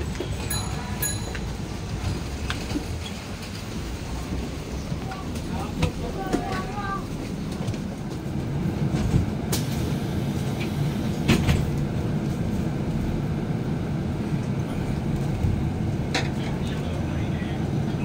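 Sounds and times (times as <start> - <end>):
bus cabin low rumble: 0.0 - 18.0.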